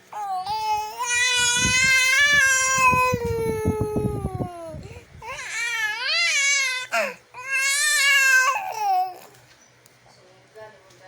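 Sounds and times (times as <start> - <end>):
baby crying: 0.1 - 9.3.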